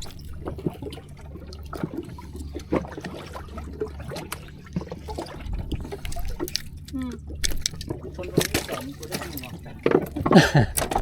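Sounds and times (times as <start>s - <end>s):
steady low hum: 0.0s - 11.0s
water splashing against boat hull: 0.0s - 11.0s.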